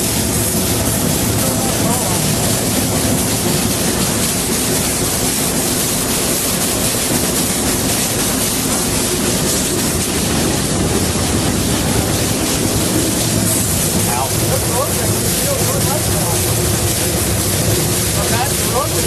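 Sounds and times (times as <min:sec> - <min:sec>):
steam locomotive rushing noise: 0:00.0 - 0:19.0.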